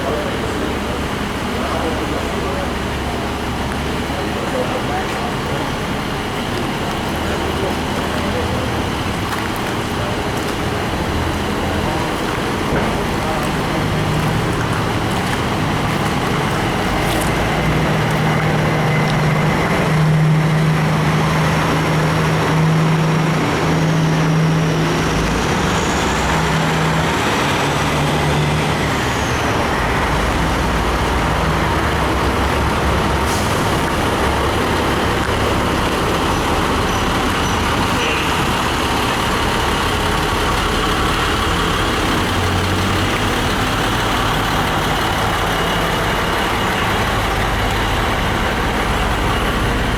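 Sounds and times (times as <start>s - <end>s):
road noise: 0.0s - 49.9s
truck engine drone: 0.0s - 49.9s.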